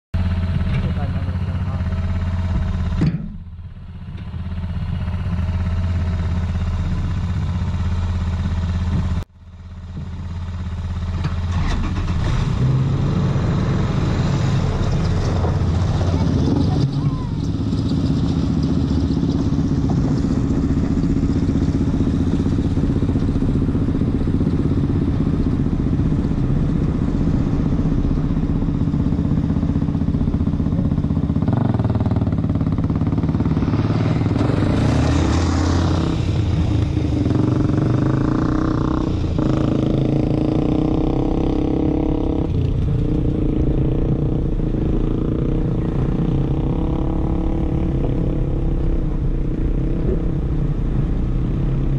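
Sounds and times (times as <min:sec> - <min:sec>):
pickup engine drone: 0:00.2 - 0:51.9.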